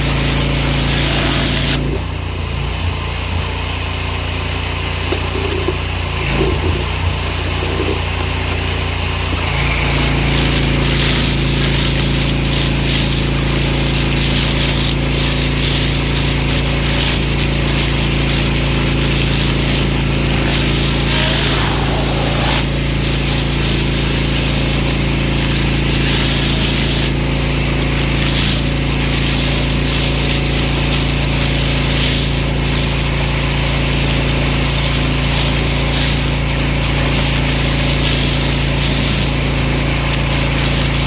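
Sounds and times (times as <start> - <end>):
water jet hiss: 0.0 - 2.2, 4.9 - 41.0
pressure washer motor drone: 0.0 - 41.0.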